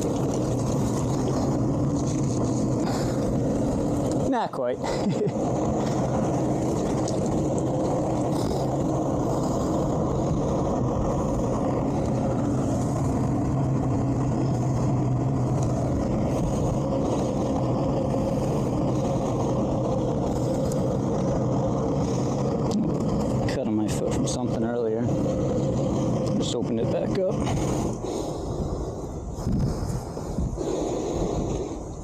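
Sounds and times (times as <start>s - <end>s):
boat engine low hum: 0.0s - 32.0s.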